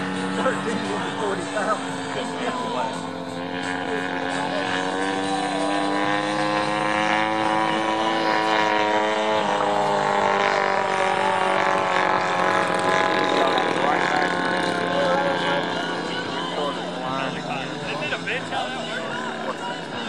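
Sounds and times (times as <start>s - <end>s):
model plane engine drone: 0.0s - 20.0s.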